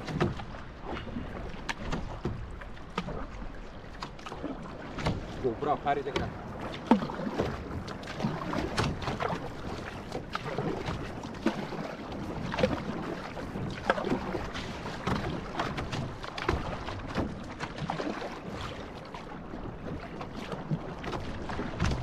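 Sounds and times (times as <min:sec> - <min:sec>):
paddle splashing in water: 0:00.0 - 0:22.0
water washing along hull: 0:00.0 - 0:22.0.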